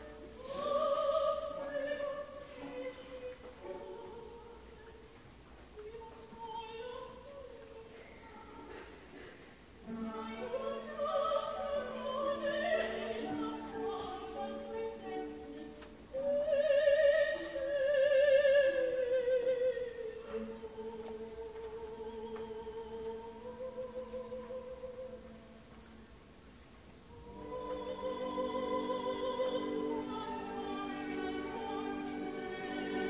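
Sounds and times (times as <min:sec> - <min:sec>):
soprano singing opera: 0:00.0 - 0:08.9, 0:09.8 - 0:25.7, 0:27.1 - 0:33.0.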